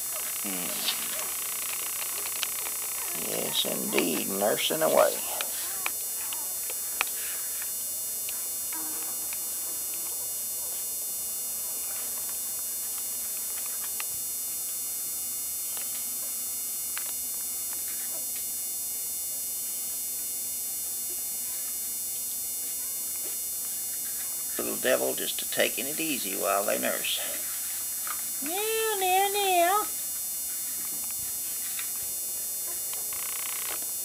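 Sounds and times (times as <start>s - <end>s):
electrical hum with high whine: 0.0s - 34.0s.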